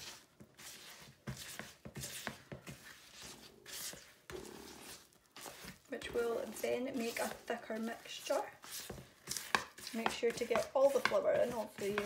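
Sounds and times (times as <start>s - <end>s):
spatula scraping mixing bowl: 0.0s - 12.0s.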